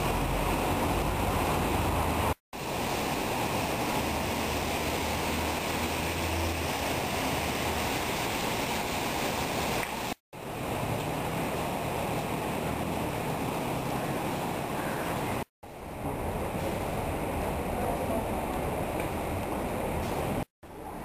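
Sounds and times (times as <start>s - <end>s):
steady rain: 0.0s - 21.0s
traffic hissing on wet road: 0.0s - 21.0s.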